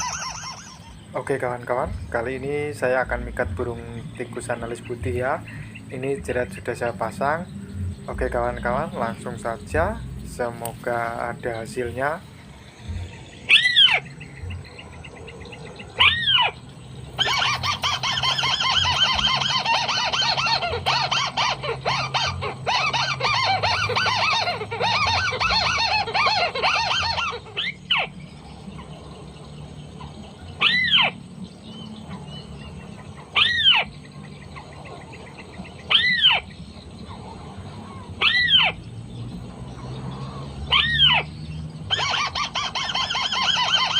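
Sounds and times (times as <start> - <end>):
bird rapid chattering: 0.0 - 43.9
bird squawks: 0.0 - 43.9.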